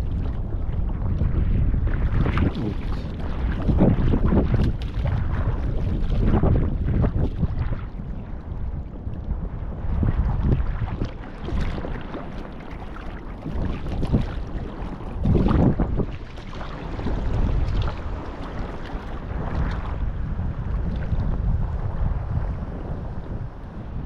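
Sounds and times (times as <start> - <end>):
water splashing with paddle strokes: 0.0 - 21.6
wind buffeting microphone: 0.0 - 24.0.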